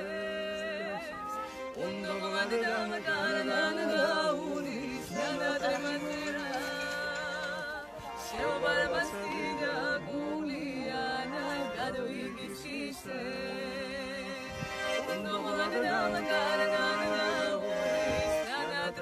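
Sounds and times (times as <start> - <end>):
accordion sustained chords: 0.0 - 19.0
woman singing with vibrato: 0.0 - 19.0.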